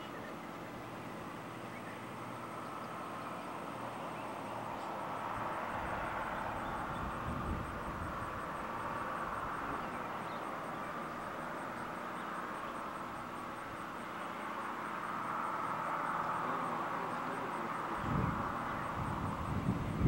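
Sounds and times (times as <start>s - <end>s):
continuous rushing hum: 0.0s - 20.0s.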